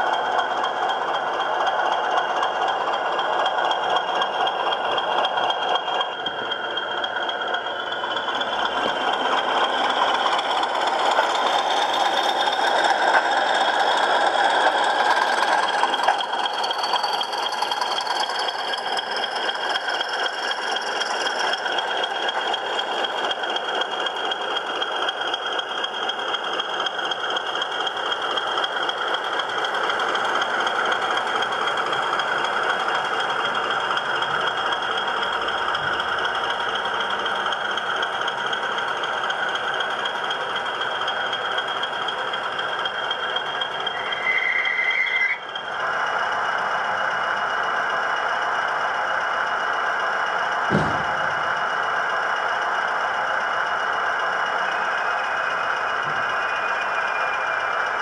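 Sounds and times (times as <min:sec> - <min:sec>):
model diesel engine sound: 0:00.0 - 0:58.0
model wheels rattling on track: 0:00.0 - 0:58.0.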